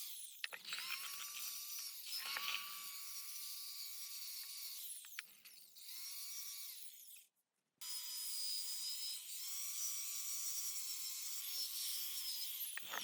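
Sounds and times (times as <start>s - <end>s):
high-speed power tool whine: 0.0s - 7.0s, 7.8s - 13.0s.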